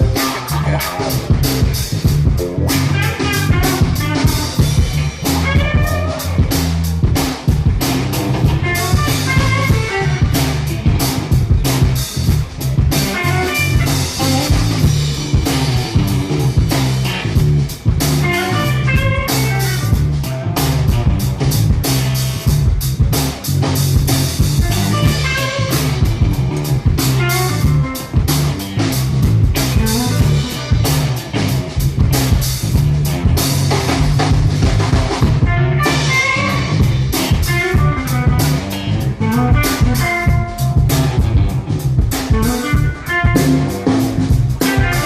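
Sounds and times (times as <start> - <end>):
drums: 0.0 - 45.0
electric guitar: 0.0 - 45.0
low bass notes: 0.0 - 45.0.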